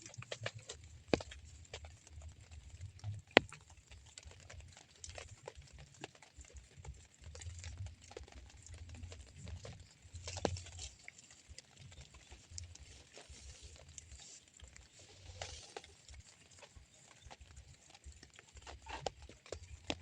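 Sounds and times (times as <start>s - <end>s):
raindrops ticking: 0.0s - 20.0s.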